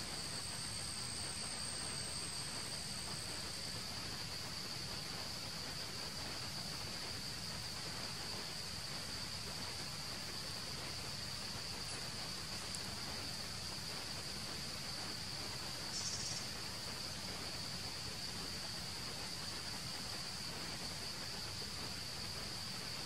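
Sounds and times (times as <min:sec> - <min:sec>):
forest insects droning: 0:00.0 - 0:23.0.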